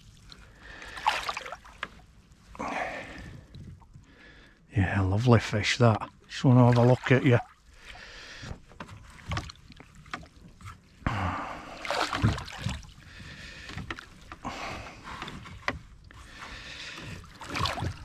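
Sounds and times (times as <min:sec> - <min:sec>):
water splashing around a boat: 0:00.0 - 0:18.0.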